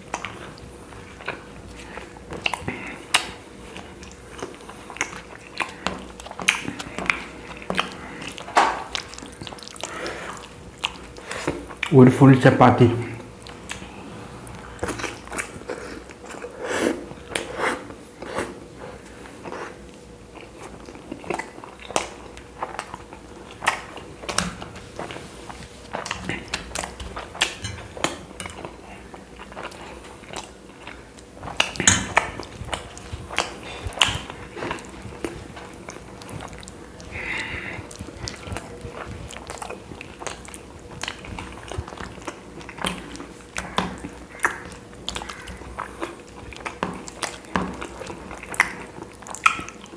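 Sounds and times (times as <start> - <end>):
man chewing flatbread: 0.0 - 12.0, 13.0 - 49.9.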